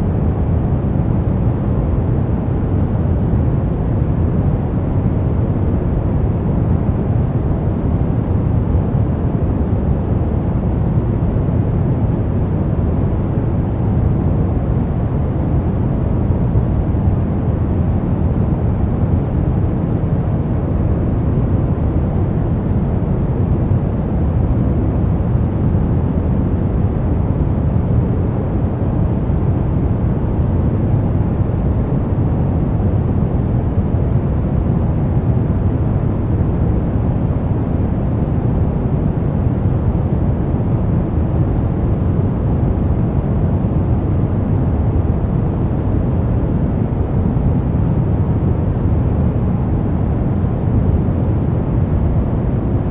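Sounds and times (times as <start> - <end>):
deep rumbling brown noise: 0.0 - 52.9.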